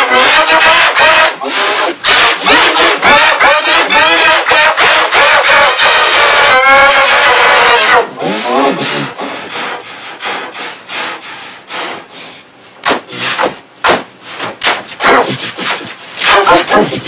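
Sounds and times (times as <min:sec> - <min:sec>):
harsh scratchy noise bursts: 0:00.0 - 0:10.8, 0:11.7 - 0:17.0.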